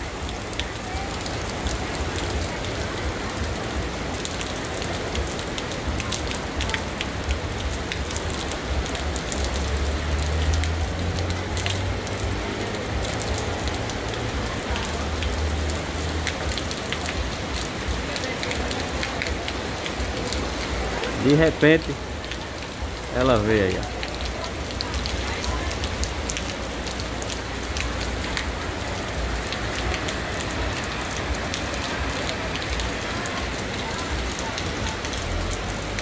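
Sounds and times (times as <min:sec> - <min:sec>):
heavy rain pouring: 0:00.0 - 0:36.0
raindrops ticking on surfaces: 0:00.0 - 0:36.0.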